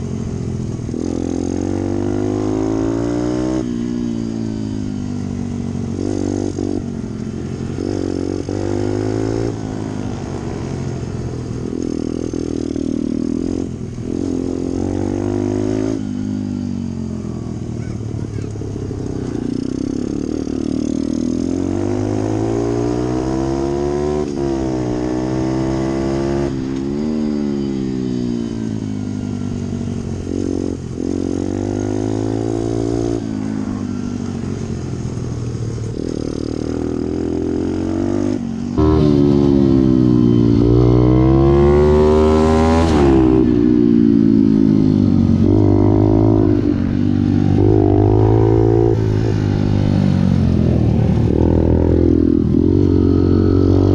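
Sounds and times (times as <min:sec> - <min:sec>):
small motorbike engine revving: 0:00.0 - 0:53.9.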